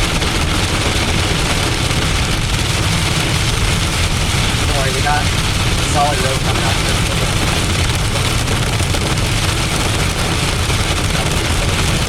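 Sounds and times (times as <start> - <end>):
storm wind buffeting microphone: 0.0 - 12.0
wind-driven rain: 0.0 - 12.0.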